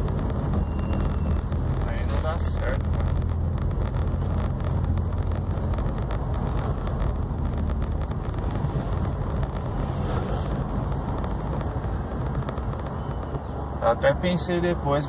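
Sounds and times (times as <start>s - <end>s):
car engine running: 0.0s - 15.0s
road noise: 0.0s - 15.0s.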